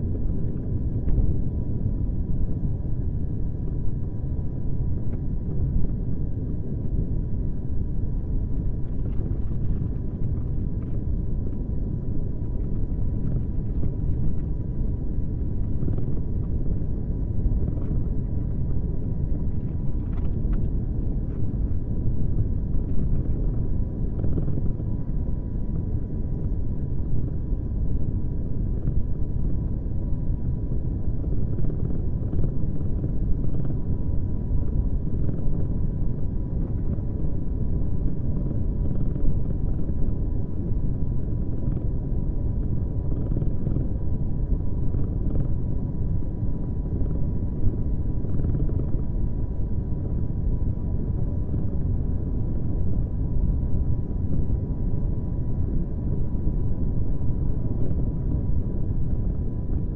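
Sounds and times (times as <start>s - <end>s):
faint thin whine: 0.0s - 59.9s.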